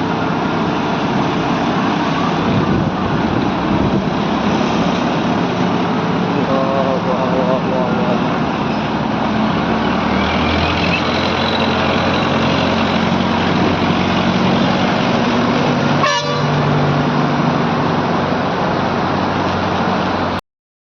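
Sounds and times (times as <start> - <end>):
diesel engine running: 0.0 - 20.4.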